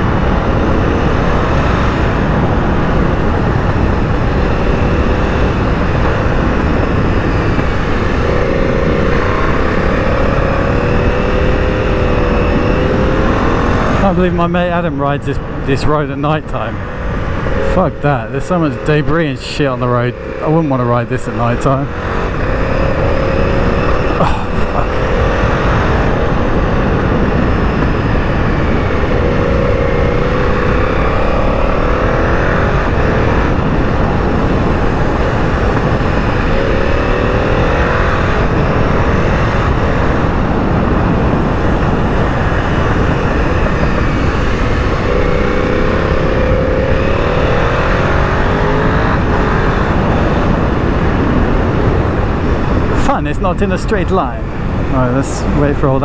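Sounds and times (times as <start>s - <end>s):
motorcycle engine revving: 0.0s - 56.0s
wind rush on microphone: 0.0s - 56.0s.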